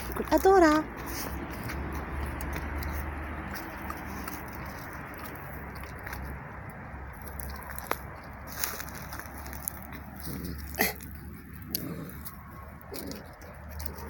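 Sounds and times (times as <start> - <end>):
cat chewing meat: 0.0 - 14.0.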